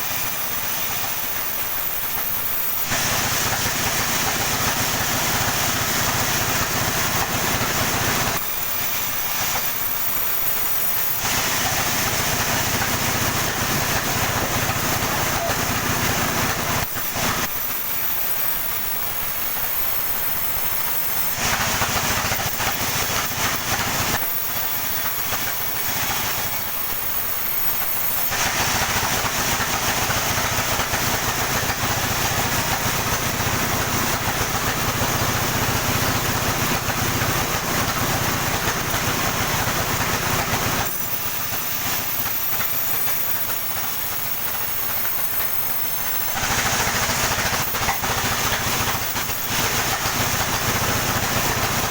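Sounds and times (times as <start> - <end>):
sawmill saw cutting wood: 0.0 - 51.9.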